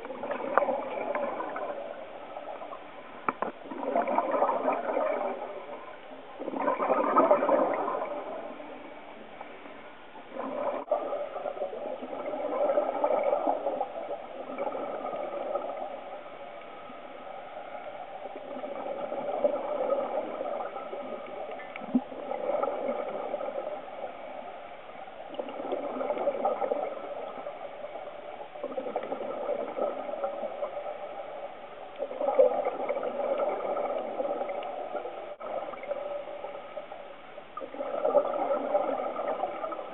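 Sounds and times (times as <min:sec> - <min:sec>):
exhaled air bubbles underwater: 0:00.0 - 0:39.9.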